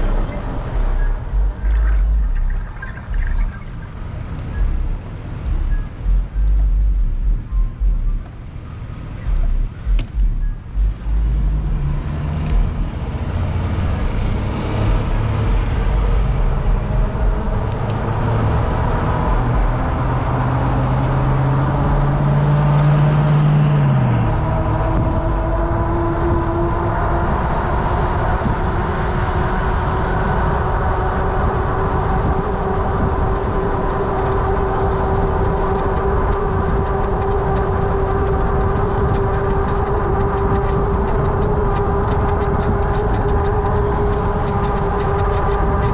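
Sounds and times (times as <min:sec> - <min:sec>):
e-bike motor and tire hum: 0:00.0 - 0:45.9
low hum rising in pitch: 0:00.0 - 0:45.9
road and wind noise: 0:00.0 - 0:45.9.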